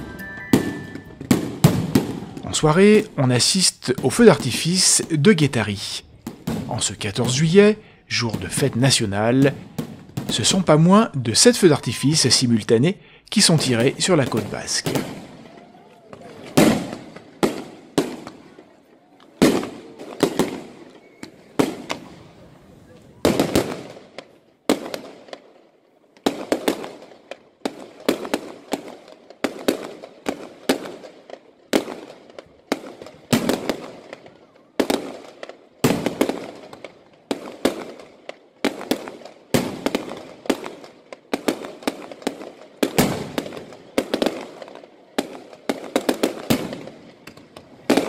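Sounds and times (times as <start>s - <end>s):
fireworks bursting: 0.0s - 48.0s.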